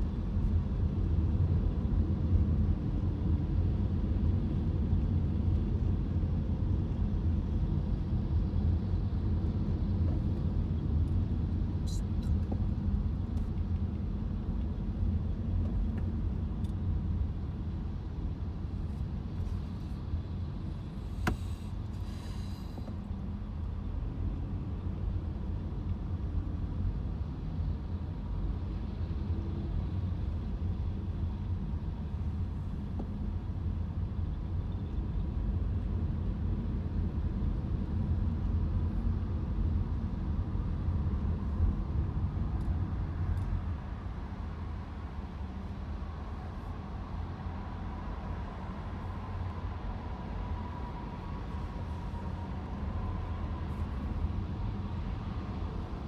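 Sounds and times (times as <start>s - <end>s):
road rumble inside car: 0.0s - 56.0s.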